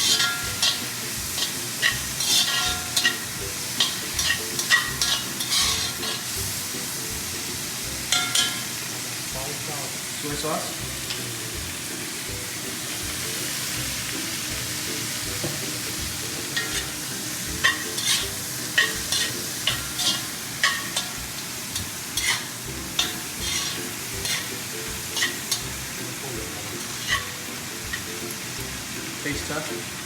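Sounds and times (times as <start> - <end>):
spatula scraping a pan: 0.0 - 9.0, 11.0 - 29.0
food sizzling in hot pan: 0.0 - 30.0.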